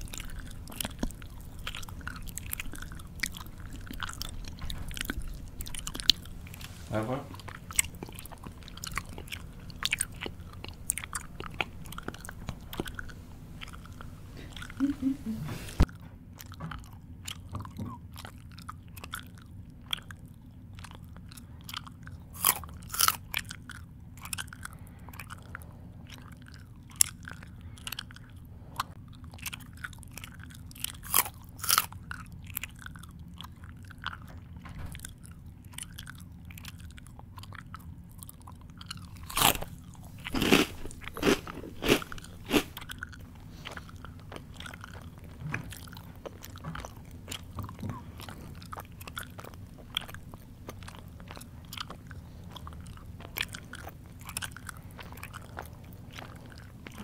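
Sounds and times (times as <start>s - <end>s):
chewing crunchy food: 0.0s - 15.1s, 15.7s - 57.0s
faint low hum: 0.0s - 57.0s.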